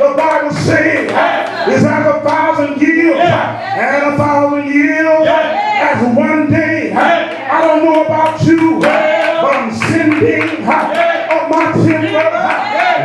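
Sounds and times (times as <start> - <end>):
man singing into a microphone: 1.7 - 13.0.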